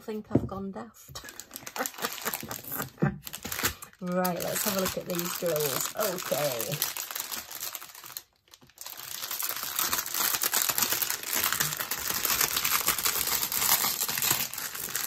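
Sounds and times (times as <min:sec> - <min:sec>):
plastic packets crinkling: 0:01.2 - 0:15.0.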